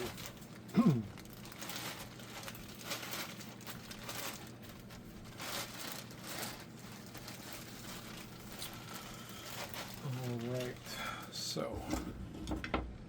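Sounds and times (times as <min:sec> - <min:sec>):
rustling and crinkling handling noise: 0:00.0 - 0:12.7.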